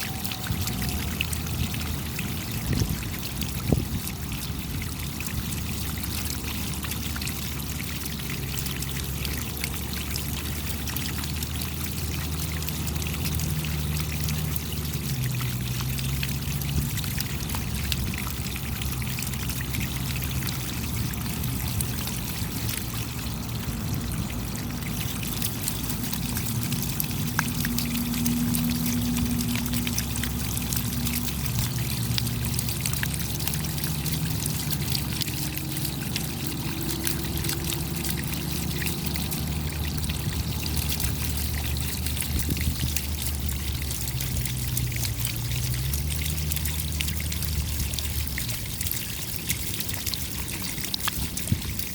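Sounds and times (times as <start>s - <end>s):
raindrops ticking: 0.0s - 51.9s
water pouring and trickling: 0.0s - 51.9s.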